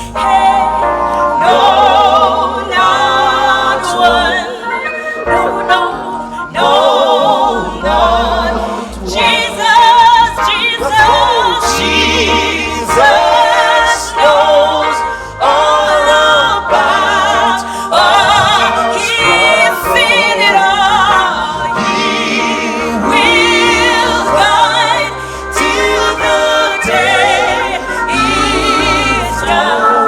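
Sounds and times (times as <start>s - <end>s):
instrumental accompaniment with bass: 0.0s - 30.0s
man and woman singing a hymn: 0.0s - 30.0s.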